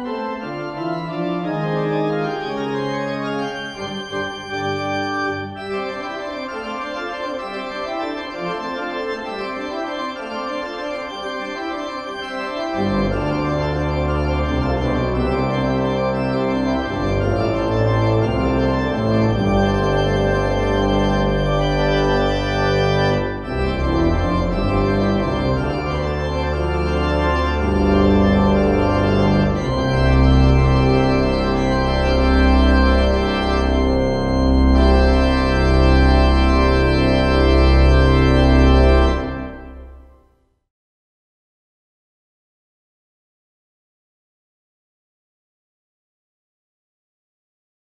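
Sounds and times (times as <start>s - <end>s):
deep organ pedal bass notes: 0.0s - 40.0s
pipe organ chords: 0.0s - 40.2s.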